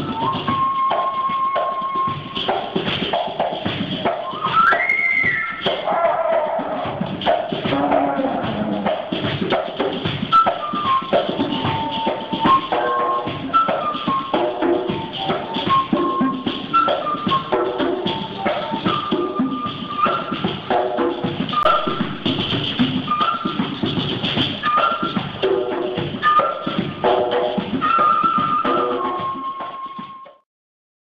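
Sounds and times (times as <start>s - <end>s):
bamboo flute melody: 0.0s - 30.4s
shaken and hand-struck percussion: 0.0s - 30.4s.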